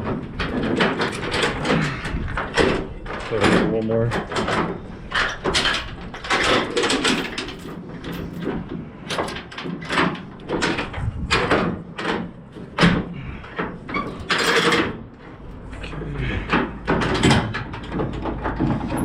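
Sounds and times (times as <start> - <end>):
steel chain clanking and rattling: 0.0 - 19.0.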